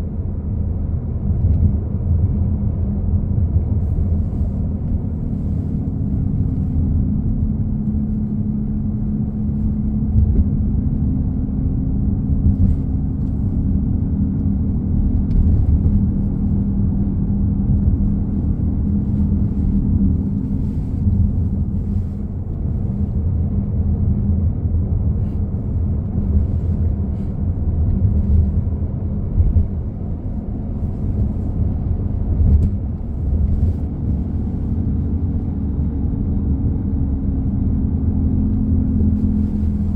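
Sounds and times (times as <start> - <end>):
low humming car rumble: 0.0 - 39.9.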